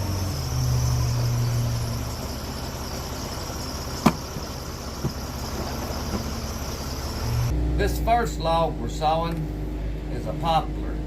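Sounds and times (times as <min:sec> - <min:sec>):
sawmill engine droning: 0:00.0 - 0:10.9.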